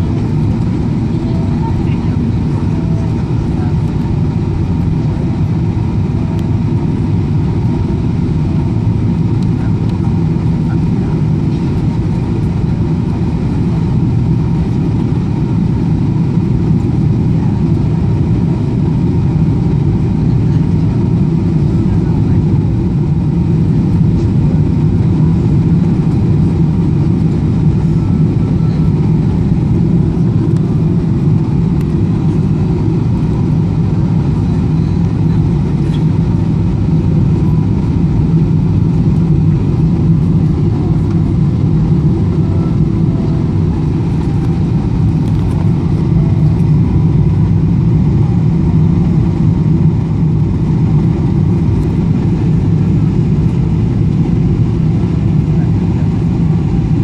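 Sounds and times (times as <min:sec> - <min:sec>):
airplane cabin roar: 0:00.0 - 0:57.0.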